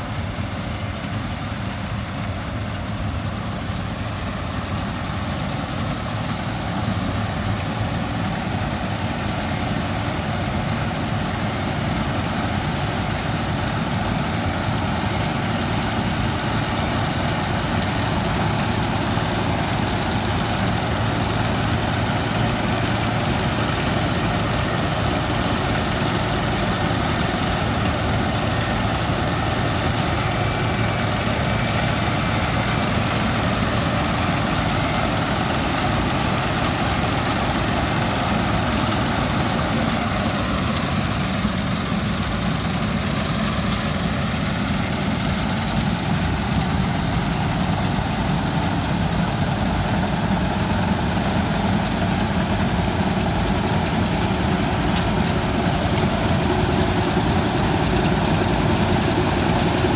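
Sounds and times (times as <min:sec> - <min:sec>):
combine harvester engine and threshing: 0:00.0 - 0:59.9.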